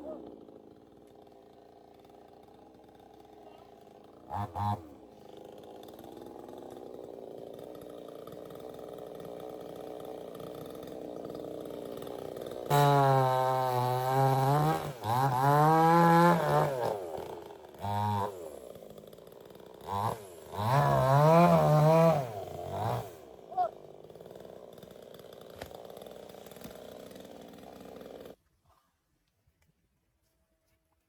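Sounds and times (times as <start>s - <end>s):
chainsaw idling and revving: 0.0s - 28.4s.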